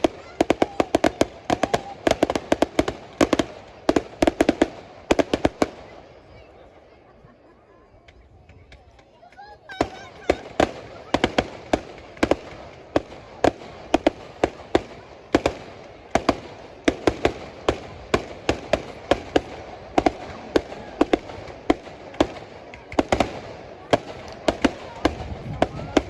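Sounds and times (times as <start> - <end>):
fireworks bangs: 0.0 - 6.5, 8.0 - 26.0.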